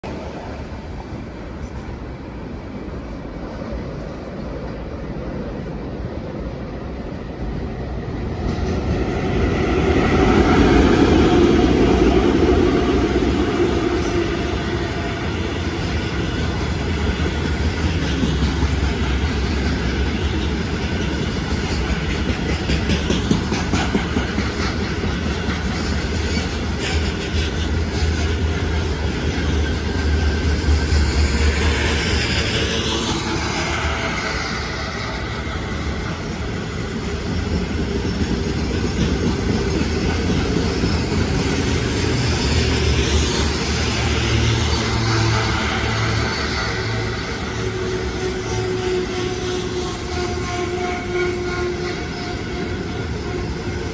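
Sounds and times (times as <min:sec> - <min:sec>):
electric locomotive humming: 0:00.0 - 0:53.9.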